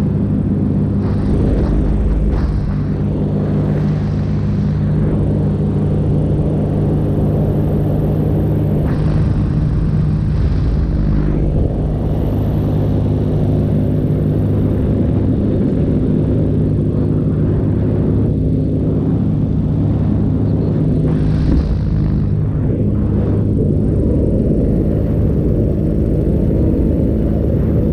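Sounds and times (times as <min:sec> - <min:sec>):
paramotor engine and propeller: 0:00.0 - 0:27.9
rushing wind: 0:00.0 - 0:27.9.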